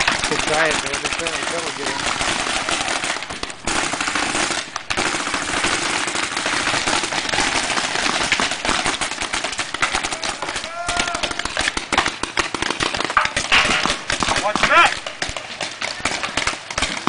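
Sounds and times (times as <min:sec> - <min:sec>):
paintball guns firing rapidly: 0:00.0 - 0:17.0.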